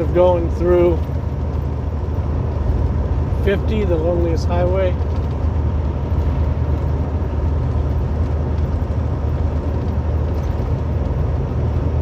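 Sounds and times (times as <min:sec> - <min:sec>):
low diesel engine drone: 0:00.0 - 0:12.0
road noise: 0:00.0 - 0:12.0.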